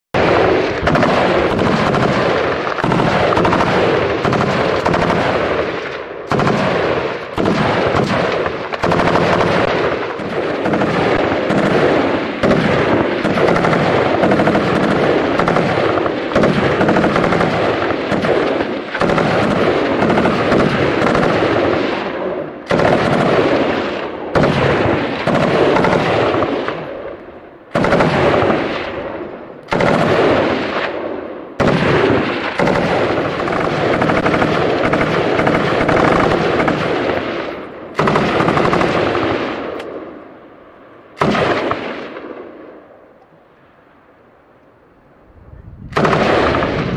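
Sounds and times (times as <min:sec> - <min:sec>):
machine gun automatic fire: 0:00.2 - 0:27.0, 0:27.7 - 0:29.1, 0:29.7 - 0:31.0, 0:31.6 - 0:40.0, 0:41.2 - 0:42.4, 0:46.0 - 0:46.9.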